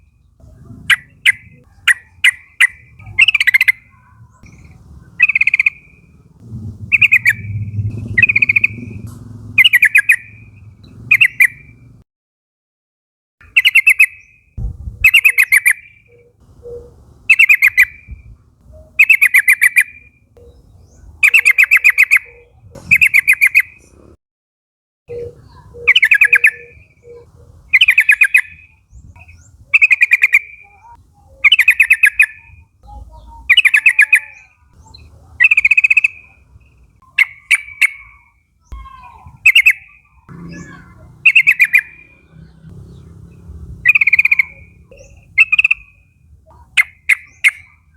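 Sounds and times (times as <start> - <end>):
bird chattering calls: 0.4 - 12.0, 13.4 - 14.3, 15.0 - 24.1, 25.1 - 47.9.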